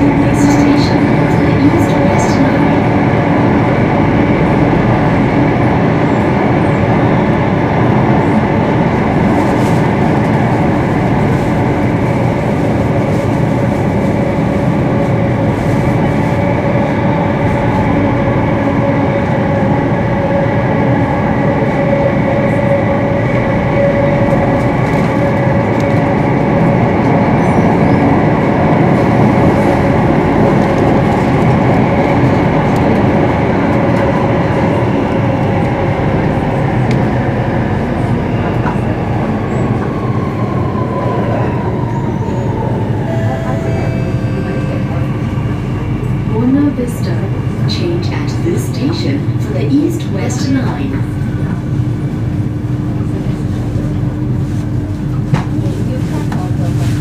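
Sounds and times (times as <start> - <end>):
train motors humming: 0.0 - 57.0
train rumbling through tunnel: 0.0 - 57.0.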